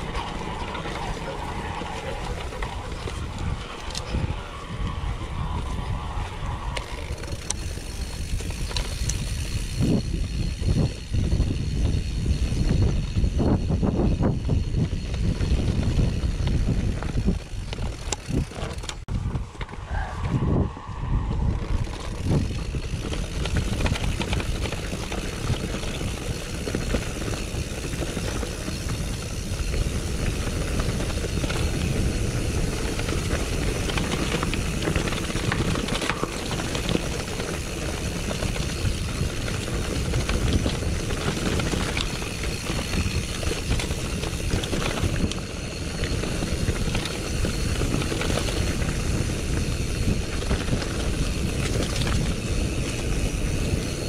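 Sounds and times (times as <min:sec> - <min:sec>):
bike rattling and clicking: 0:00.0 - 0:54.0
wind buffeting microphone: 0:00.0 - 0:54.0.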